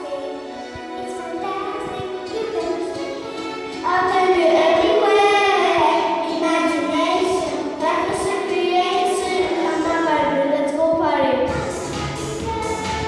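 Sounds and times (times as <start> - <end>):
backing music: 0.0 - 13.0
children singing into microphones: 0.0 - 13.0.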